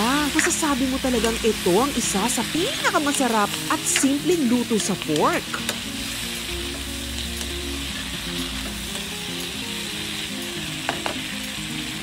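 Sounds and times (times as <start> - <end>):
food sizzling in a wok: 0.0 - 12.0
soft background music: 0.0 - 12.0.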